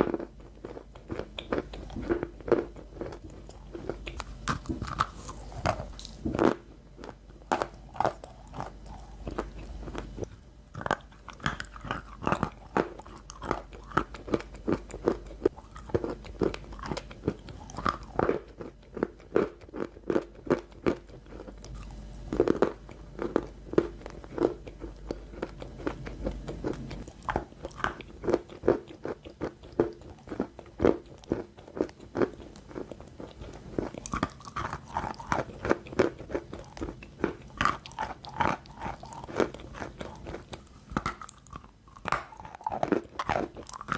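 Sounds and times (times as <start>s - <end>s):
crunchy snacks being chewed: 0.0s - 43.9s.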